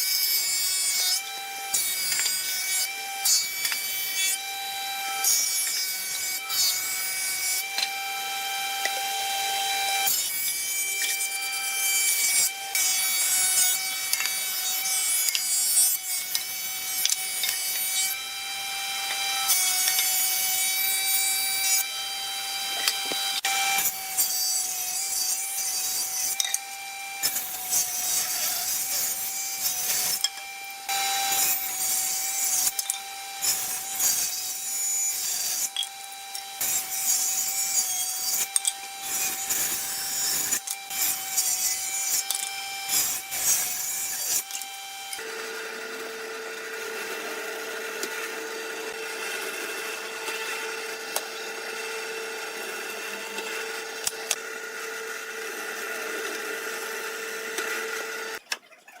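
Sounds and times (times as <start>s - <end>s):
wood being sawn: 0.0s - 58.4s.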